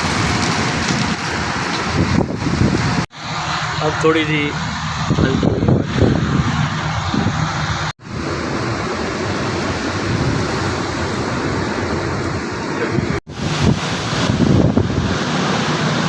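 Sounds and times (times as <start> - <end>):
gusting wind: 0.0 - 16.0
heavy rain pouring: 0.0 - 16.0.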